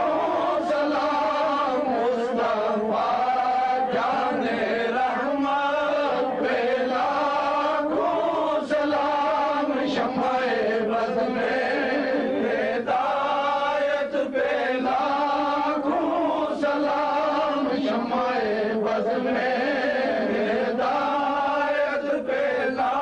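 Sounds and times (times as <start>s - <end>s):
devotional chanting: 0.0s - 23.0s.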